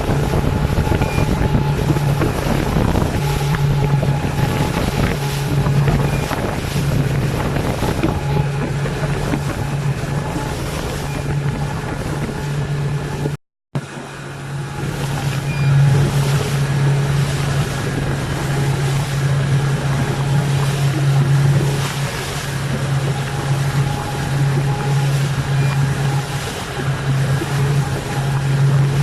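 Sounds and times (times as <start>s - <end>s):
motorboat engine droning: 0.0s - 29.0s
water noise: 0.0s - 29.0s
wind: 0.0s - 29.0s.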